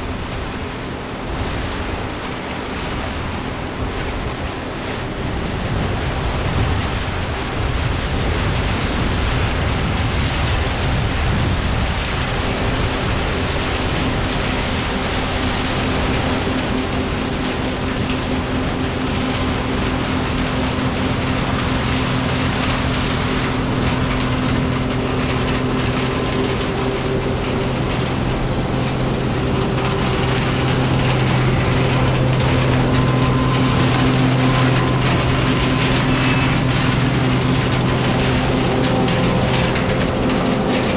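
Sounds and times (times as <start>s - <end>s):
combine harvester running: 0.0s - 40.9s
low mechanical drone: 0.0s - 40.9s.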